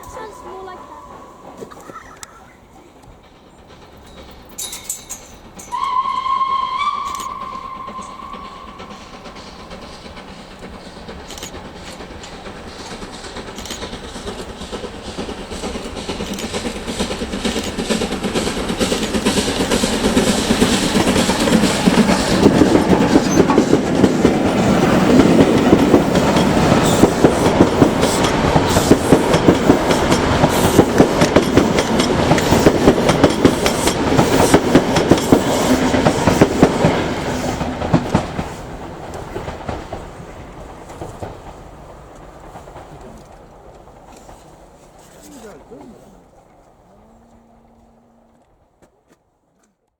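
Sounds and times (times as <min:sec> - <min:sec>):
train wheels clacking over rail joints: 0:00.0 - 0:49.8.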